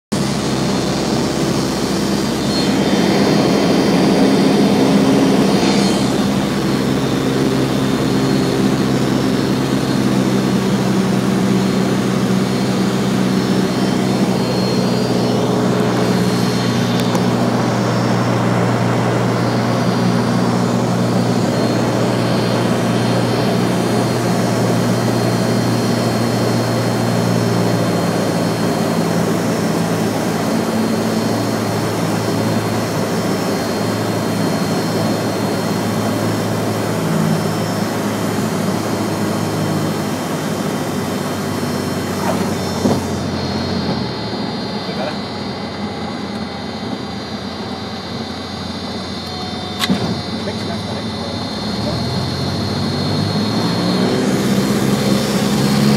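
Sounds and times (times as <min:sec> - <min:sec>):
light aircraft engine drone: 0:00.1 - 0:55.9.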